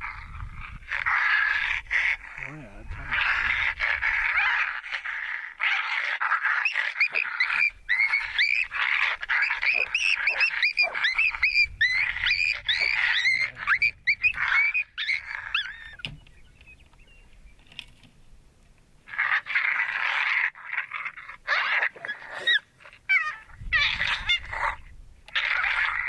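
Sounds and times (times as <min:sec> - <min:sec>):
coyotes yipping and howling: 0:00.0 - 0:16.5, 0:19.1 - 0:26.0.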